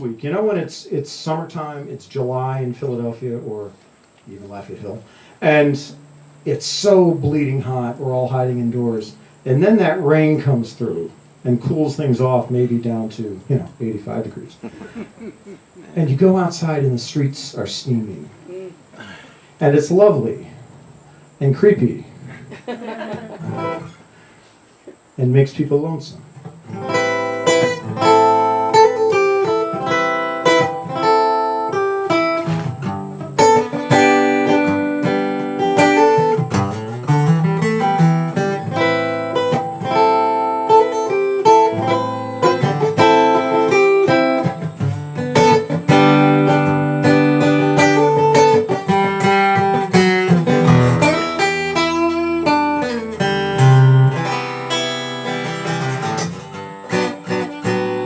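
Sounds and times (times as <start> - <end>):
acoustic guitar playing: 4.5 - 17.2, 21.4 - 24.4, 26.1 - 58.0.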